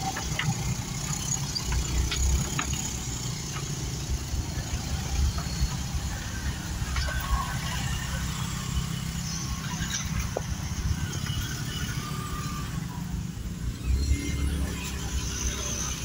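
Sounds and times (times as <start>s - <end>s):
scooter engines rumbling: 0.0s - 16.0s.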